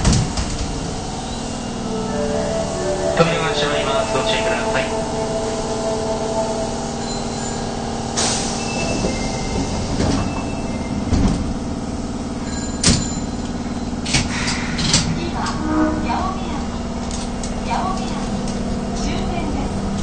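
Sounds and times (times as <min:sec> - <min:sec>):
subway train rumble and hum: 0:00.0 - 0:20.0.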